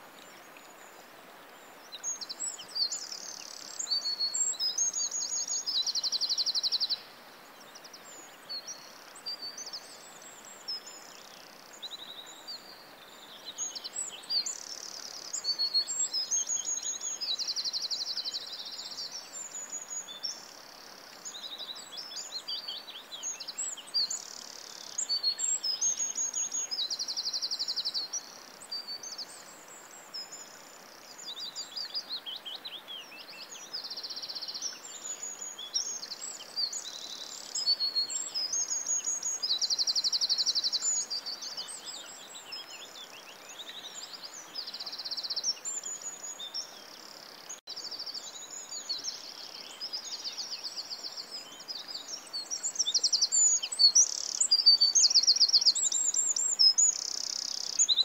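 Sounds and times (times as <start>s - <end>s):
faint steady hiss: 0.0s - 58.0s
songbirds singing: 0.0s - 58.0s.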